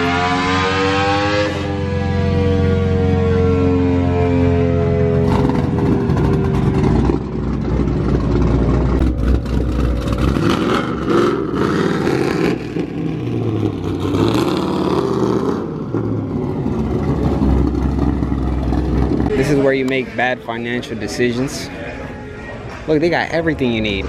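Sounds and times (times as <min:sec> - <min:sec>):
car engine revving: 0:00.0 - 0:21.1.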